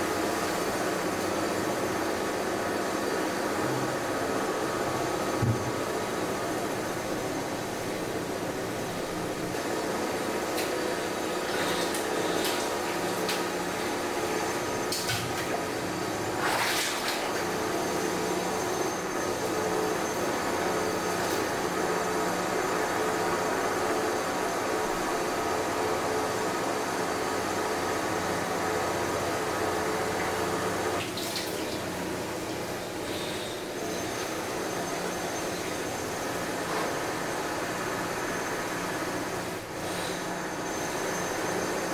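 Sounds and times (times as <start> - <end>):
steady machine drone: 0.0 - 31.0, 31.9 - 41.9.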